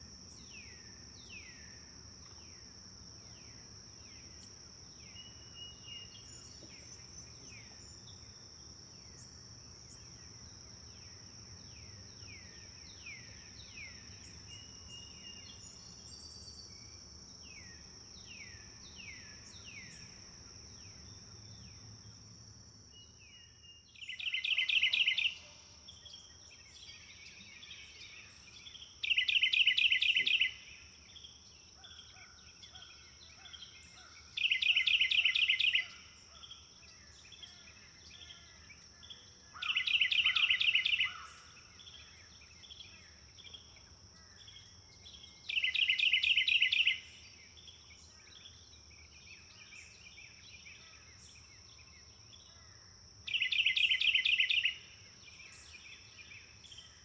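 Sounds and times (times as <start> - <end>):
birds chirping softly: 0.0 - 57.0.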